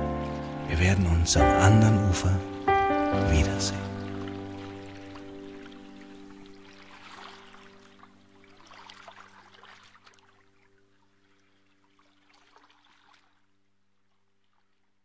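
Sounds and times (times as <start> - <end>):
faint water trickling: 0.0 - 15.0.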